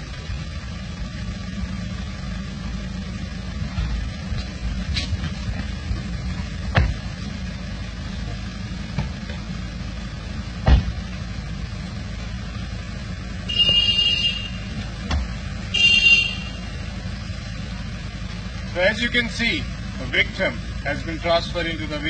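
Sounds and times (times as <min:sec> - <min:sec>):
suv engine idling: 0:00.0 - 0:22.0.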